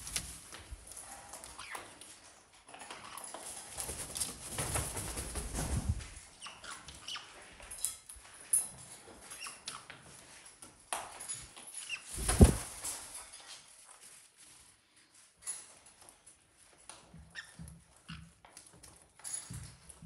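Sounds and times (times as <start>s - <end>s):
birds rustling and fluttering: 0.0s - 20.0s.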